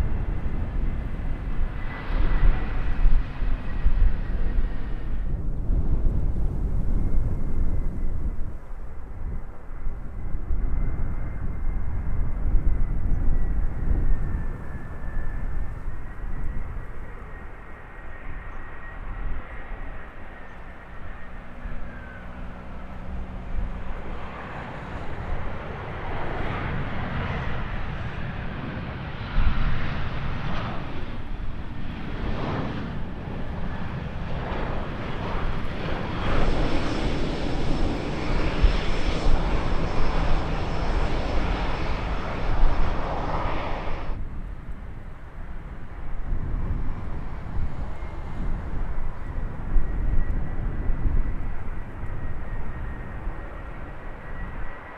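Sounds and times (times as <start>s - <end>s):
airliner engines roaring: 0.0s - 54.9s.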